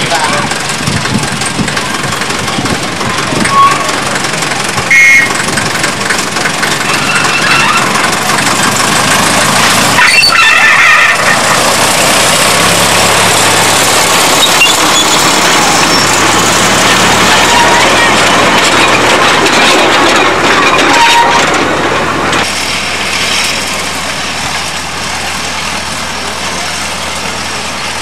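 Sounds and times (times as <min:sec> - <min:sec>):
diesel locomotive running: 0:00.0 - 0:28.0
wagons rolling on track: 0:00.0 - 0:28.0.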